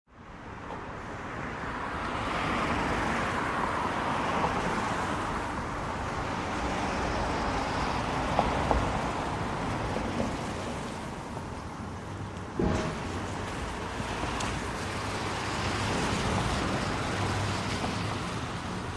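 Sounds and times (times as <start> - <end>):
traffic tyre hiss on wet road: 1.2 - 18.9.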